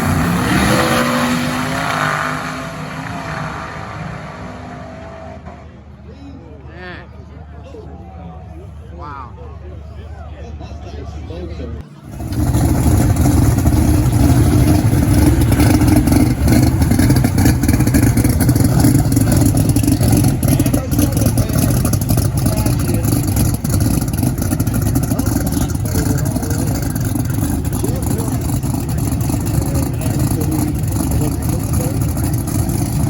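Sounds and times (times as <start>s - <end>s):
car engine running: 0.0s - 5.8s, 12.0s - 33.0s.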